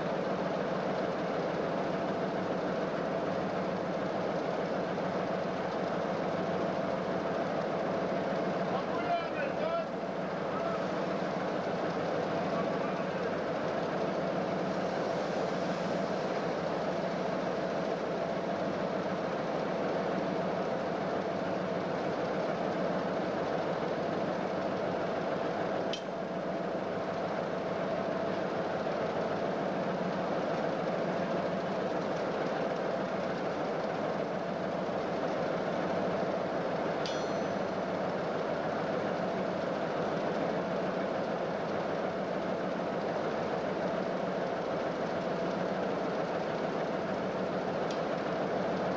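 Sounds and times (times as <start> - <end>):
diesel locomotive engine idling: 0.0 - 48.9.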